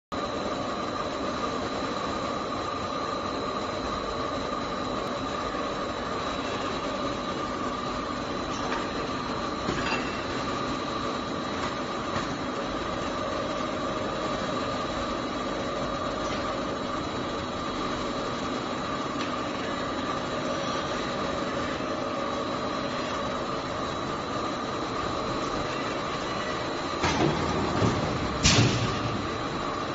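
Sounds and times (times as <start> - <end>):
industrial machinery hum: 0.1 - 29.9.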